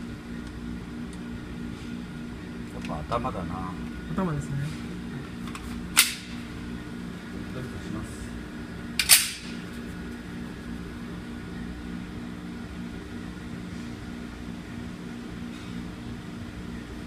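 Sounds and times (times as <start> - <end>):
ventilation system hum: 0.0 - 17.0.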